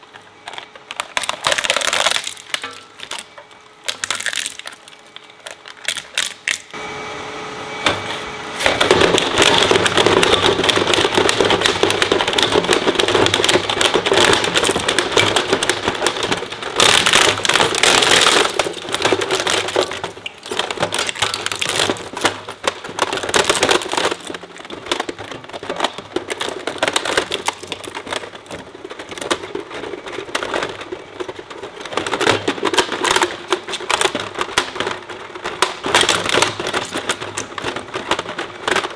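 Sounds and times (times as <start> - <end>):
shredder crunching plastic: 0.0 - 6.8, 8.6 - 38.9.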